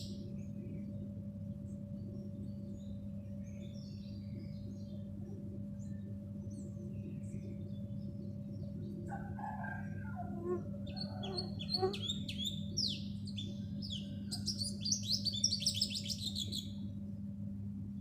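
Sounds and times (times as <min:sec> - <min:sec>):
low hum: 0:00.0 - 0:18.0
songbird chirping: 0:01.9 - 0:17.0
lower softer bird calls: 0:02.0 - 0:17.0.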